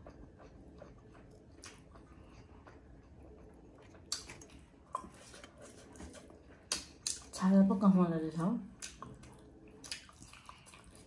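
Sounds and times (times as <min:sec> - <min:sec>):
person chewing with mouth clicks: 0:00.0 - 0:07.3, 0:08.8 - 0:11.0.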